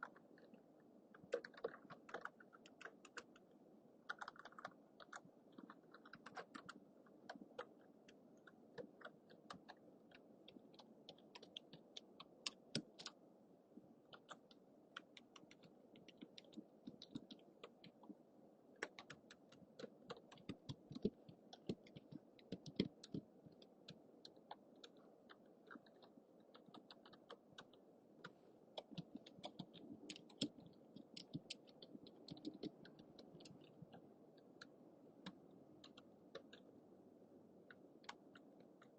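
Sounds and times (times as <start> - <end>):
typing on computer keyboard: 1.2 - 3.4, 4.0 - 13.2, 14.1 - 18.1, 18.8 - 34.0, 37.7 - 38.9.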